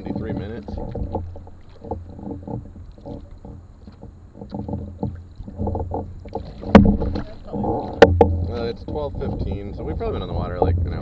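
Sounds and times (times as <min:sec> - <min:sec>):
paddles splashing in water: 0:00.0 - 0:11.0
water gurgling along hull: 0:00.0 - 0:11.0
wind rumble on microphone: 0:00.0 - 0:11.0.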